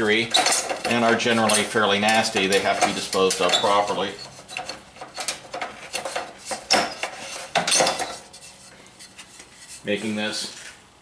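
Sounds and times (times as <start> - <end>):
fluorescent tube rattling against metal: 0.3 - 9.6.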